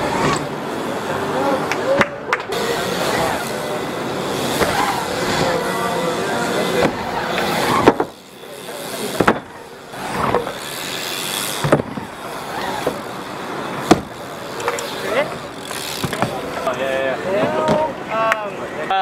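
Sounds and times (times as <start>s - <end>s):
bike tyres rolling on wooden ramp: 0.0s - 18.0s.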